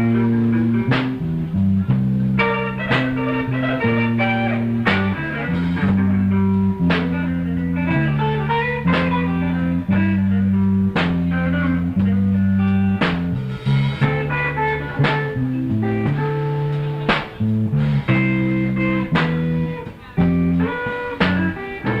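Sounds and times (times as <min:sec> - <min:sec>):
bass line: 0:00.0 - 0:22.0
guitar lines: 0:00.0 - 0:22.0.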